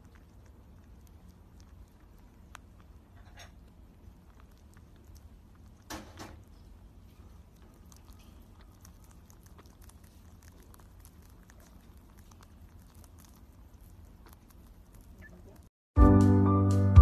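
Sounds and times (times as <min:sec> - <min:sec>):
rabbit chewing: 0:00.0 - 0:15.7.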